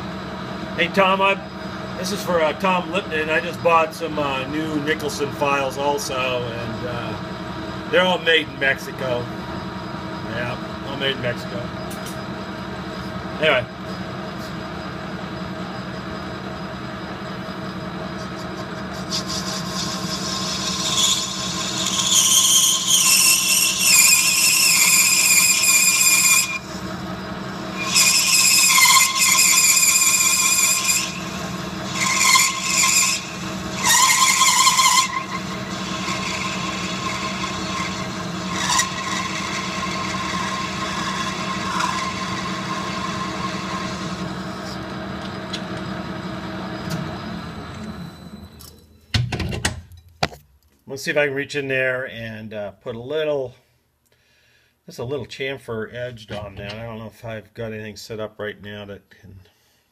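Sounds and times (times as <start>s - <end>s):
lathe blade cutting squeal: 0.0s - 48.7s
lathe running hum: 0.0s - 48.7s.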